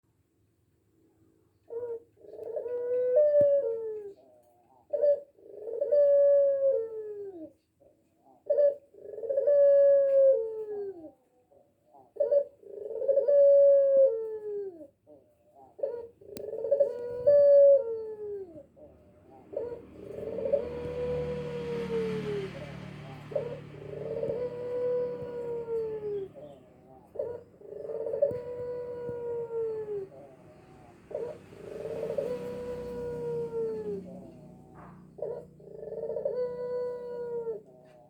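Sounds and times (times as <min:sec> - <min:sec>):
turtle dove cooing: 0:01.7 - 0:38.0.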